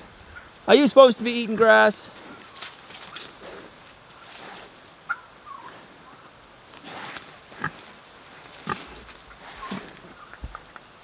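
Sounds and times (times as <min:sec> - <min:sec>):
pigs grunting and snuffling: 0:00.0 - 0:11.0.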